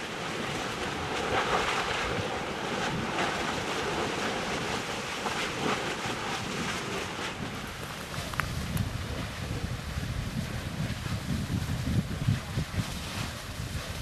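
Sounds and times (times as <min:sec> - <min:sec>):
lava churning and splashing: 0:00.0 - 0:14.0
wind on microphone: 0:00.0 - 0:14.0
faint crackles: 0:02.8 - 0:14.0.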